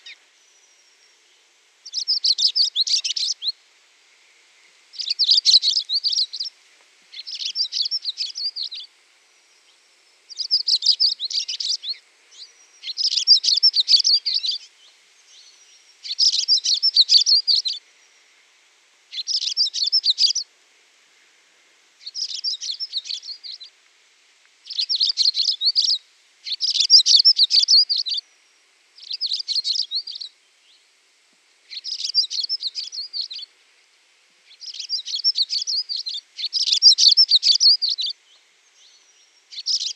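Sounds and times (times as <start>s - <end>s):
songbird twittering: 0.0s - 3.6s, 4.9s - 6.5s, 7.1s - 18.2s, 19.1s - 20.5s, 22.0s - 23.7s, 24.6s - 28.3s, 29.0s - 30.9s, 31.7s - 33.5s, 34.4s - 39.9s.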